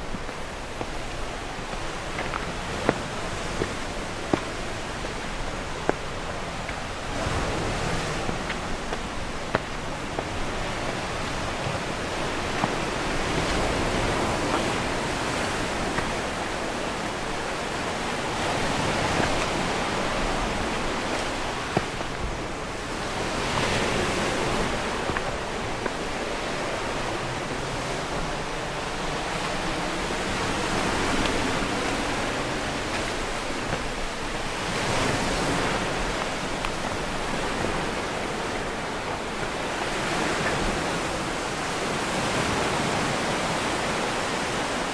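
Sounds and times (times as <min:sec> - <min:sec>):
surf washing against shore: 0:00.0 - 0:44.9.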